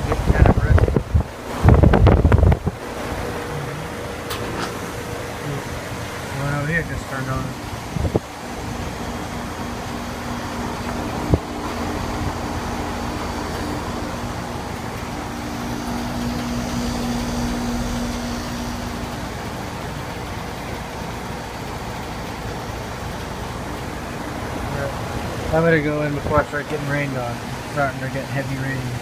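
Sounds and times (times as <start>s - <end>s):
compressor hum: 0.0s - 29.0s
condenser fan rushing: 0.0s - 29.0s.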